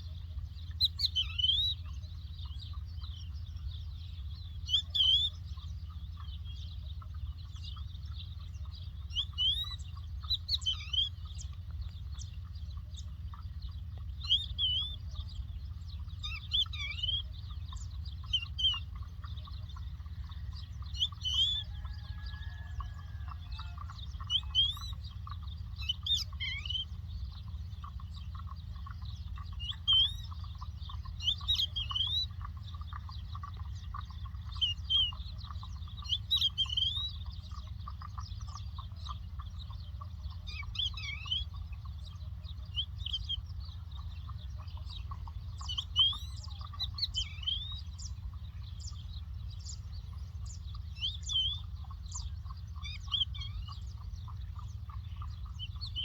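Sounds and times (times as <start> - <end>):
lark chirping: 0.0 - 56.0
steady low rumble: 0.0 - 56.0.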